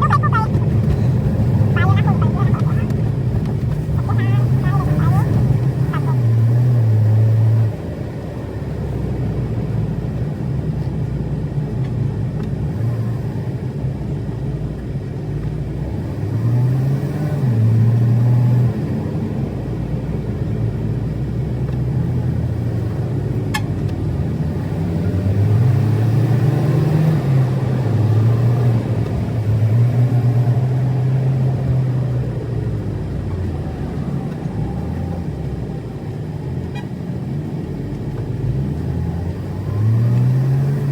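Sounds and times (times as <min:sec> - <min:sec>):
car engine running: 0:00.0 - 0:40.9
road noise rumble: 0:00.0 - 0:40.9.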